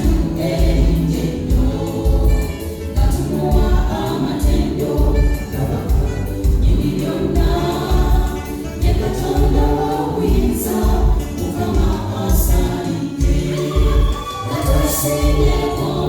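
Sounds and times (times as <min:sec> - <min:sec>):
gospel choir singing: 0:00.0 - 0:16.0
steady drum beat: 0:00.0 - 0:16.0.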